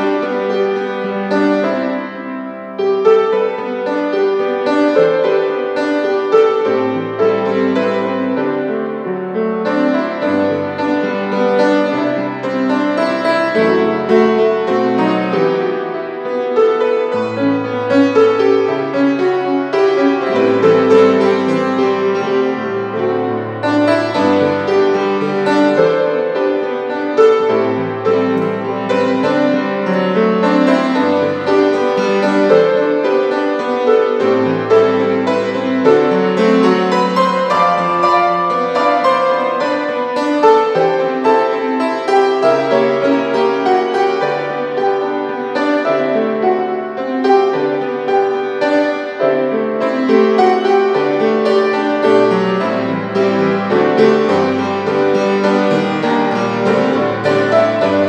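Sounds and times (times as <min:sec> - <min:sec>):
grand piano hymn arrangement: 0:00.0 - 0:58.0.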